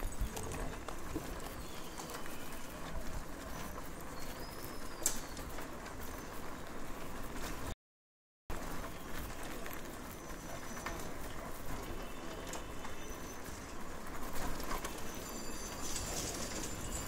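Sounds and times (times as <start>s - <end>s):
birds chirping: 0.0s - 7.6s, 8.6s - 17.0s
outdoor background noise: 0.0s - 7.8s, 8.5s - 17.0s.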